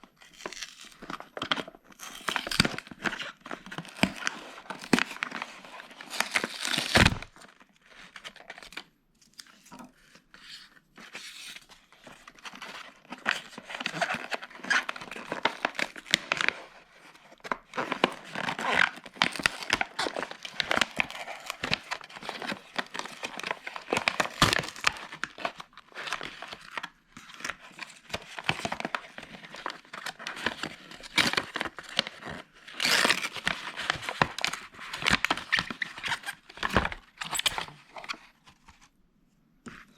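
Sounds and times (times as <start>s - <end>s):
packaging being torn and crinkled: 0.1s - 9.6s, 11.4s - 38.3s.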